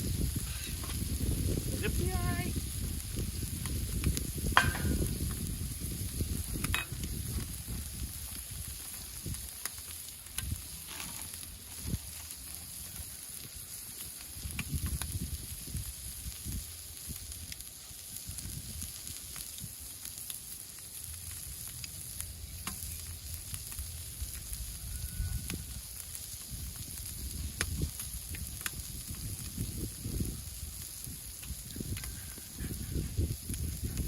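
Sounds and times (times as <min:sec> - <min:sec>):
butter sizzling in a pan: 0:00.0 - 0:34.0.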